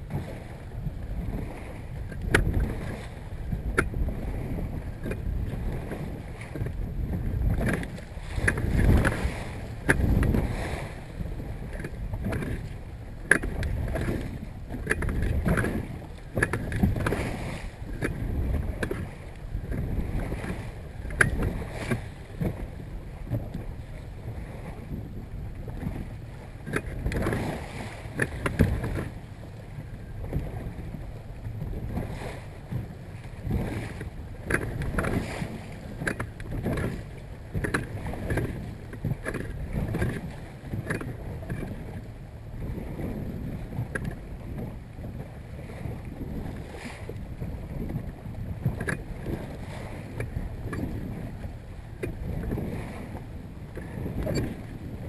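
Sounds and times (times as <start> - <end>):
water splashing against boat bow: 0.0 - 55.0
wind buffeting microphone: 0.0 - 55.0.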